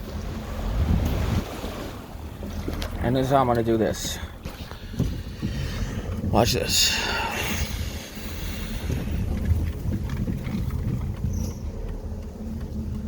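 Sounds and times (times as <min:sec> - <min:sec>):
car engine and road rumble: 0:00.0 - 0:13.0
water washing around car: 0:00.0 - 0:13.0.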